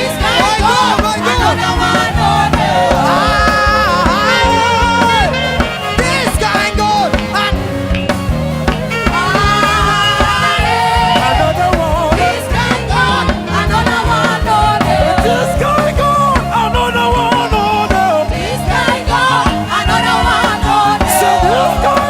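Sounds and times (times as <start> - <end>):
band with drums: 0.0 - 22.0
gospel singing: 0.0 - 22.0.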